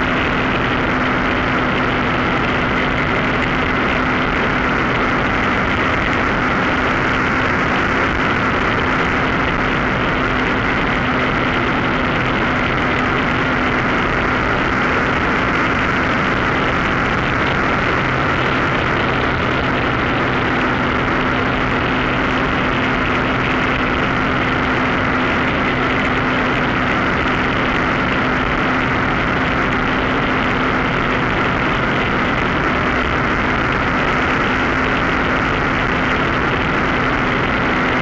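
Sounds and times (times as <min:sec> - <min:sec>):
rushing wind: 0:00.0 - 0:38.0
small engine and propeller drone: 0:00.0 - 0:38.0.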